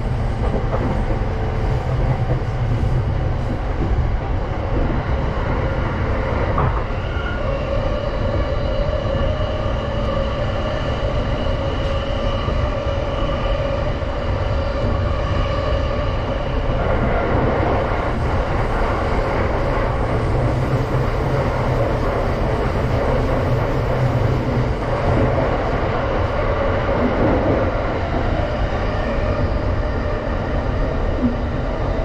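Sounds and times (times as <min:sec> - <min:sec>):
train wheels rumbling on rail: 0:00.0 - 0:32.0
train whine: 0:00.0 - 0:32.0.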